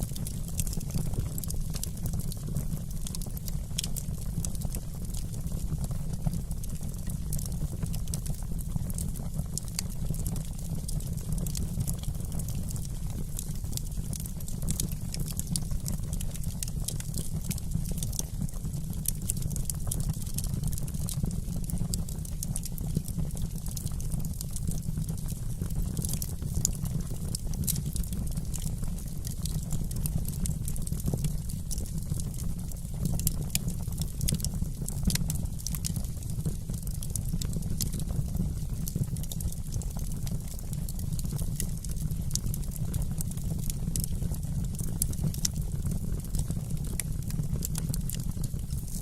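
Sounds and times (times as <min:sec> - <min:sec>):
fire popping and snapping: 0:00.0 - 0:49.0
low rumble of flames: 0:00.0 - 0:49.0.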